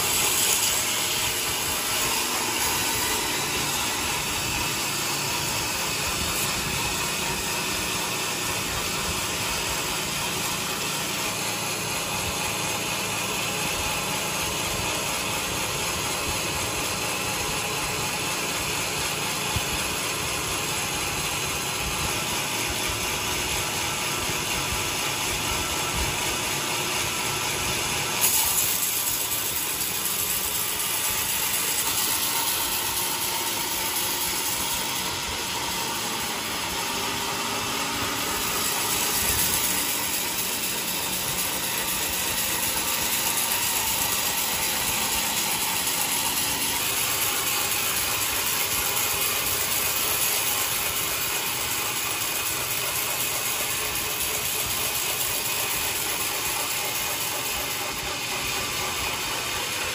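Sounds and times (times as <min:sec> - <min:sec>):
sawmill cutting wood: 0:00.0 - 0:59.9.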